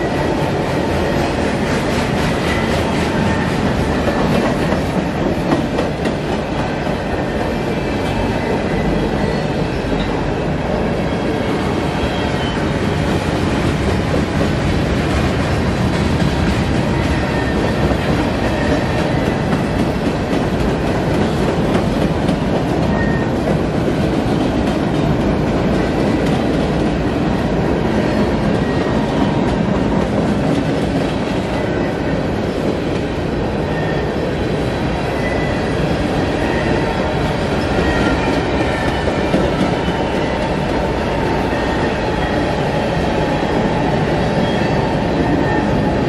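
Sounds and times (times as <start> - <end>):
train wheels rolling over rails: 0.0 - 46.0.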